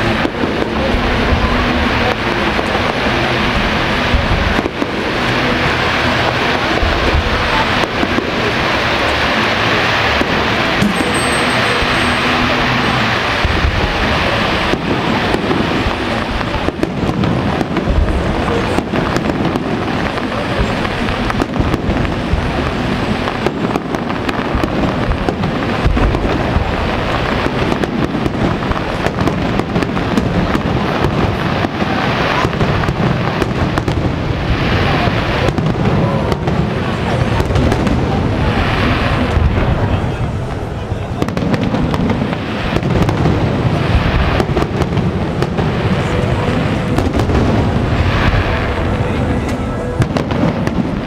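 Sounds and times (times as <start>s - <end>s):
fireworks bursts and bangs: 0.0s - 51.0s.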